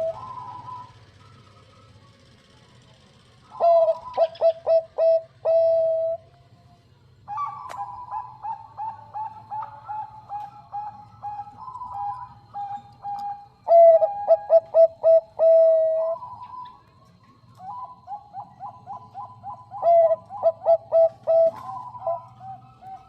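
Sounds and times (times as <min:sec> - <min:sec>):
dove cooing: 0:00.0 - 0:02.6, 0:03.4 - 0:06.3, 0:07.2 - 0:23.0.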